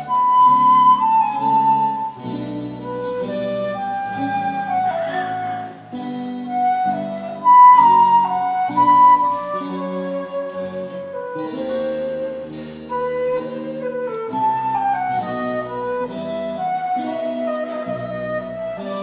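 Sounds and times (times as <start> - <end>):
guitars holding chords: 0.0 - 19.0
wooden flute melody: 0.0 - 19.0.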